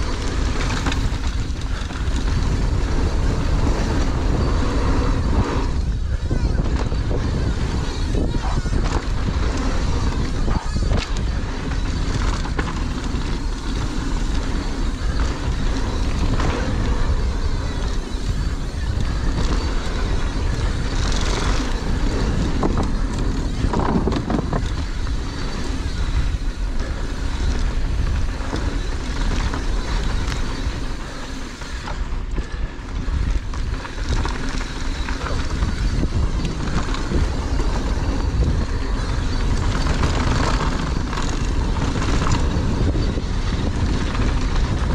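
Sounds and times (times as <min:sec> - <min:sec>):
bike knocks and rattles: 0:00.0 - 0:05.4, 0:06.0 - 0:44.9
wind rushing over microphone: 0:00.0 - 0:44.9.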